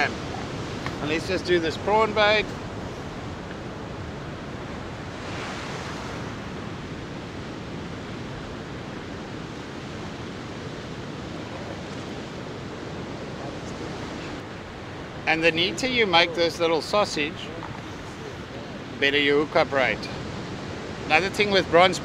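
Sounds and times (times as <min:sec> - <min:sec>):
surf breaking on beach: 0:00.0 - 0:22.0.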